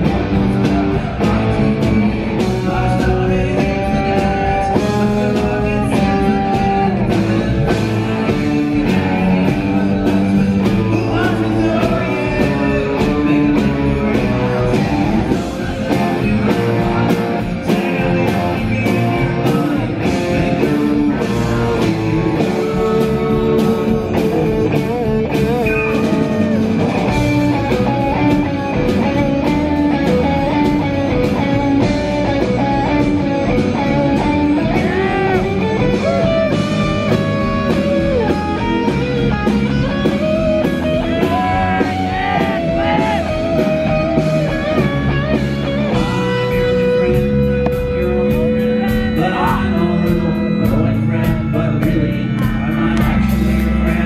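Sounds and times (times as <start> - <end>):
drum beat: 0.0 - 50.8
electric guitar: 0.0 - 54.0
keyboard: 0.0 - 54.0
person singing: 0.0 - 54.0.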